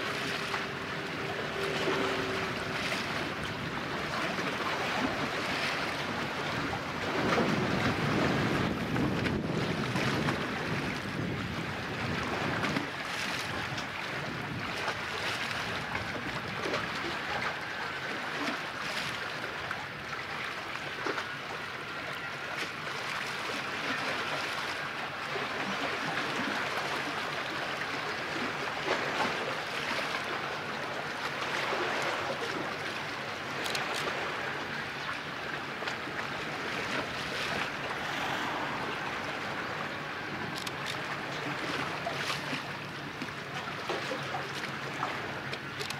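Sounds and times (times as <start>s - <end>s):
sea waves: 0.0s - 45.9s
water splashes: 0.0s - 45.9s
wind: 0.0s - 45.9s.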